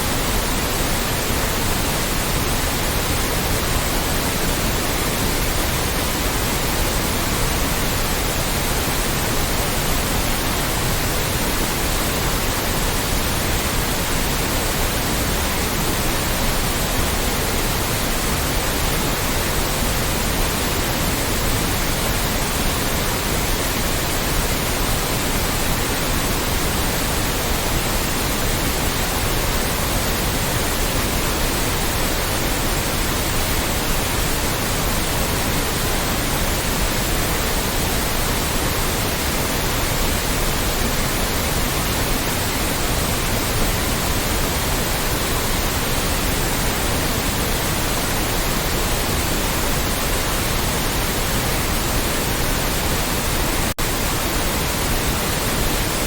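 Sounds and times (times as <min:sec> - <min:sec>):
loud white noise: 0:00.0 - 0:56.0.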